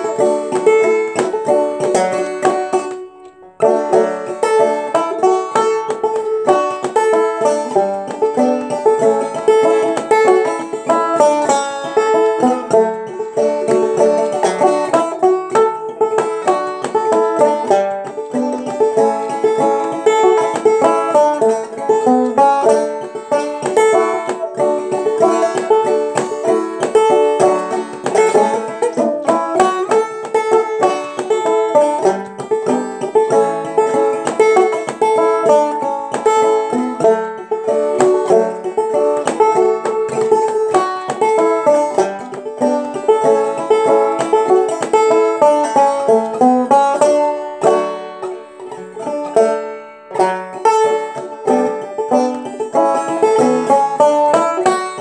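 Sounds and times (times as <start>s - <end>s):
banjo plucked old-time tune: 0.0s - 55.0s.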